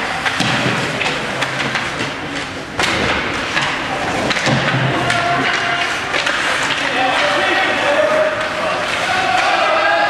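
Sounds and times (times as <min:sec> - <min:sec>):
hockey sticks and puck clacking: 0:00.0 - 0:10.0
arena crowd din: 0:00.6 - 0:10.0.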